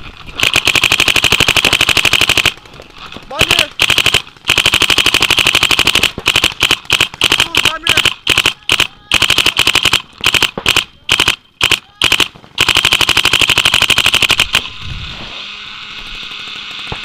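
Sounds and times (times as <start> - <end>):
paintball marker rapid firing: 0.3 - 14.7.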